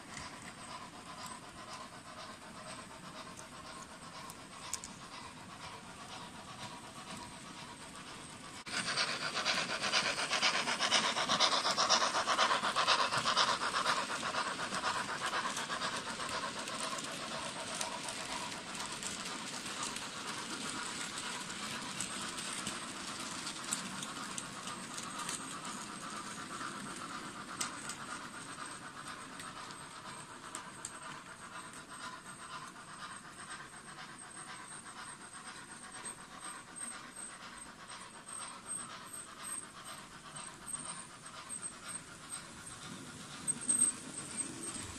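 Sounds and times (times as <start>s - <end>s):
model train rattling over track: 0.0s - 44.9s.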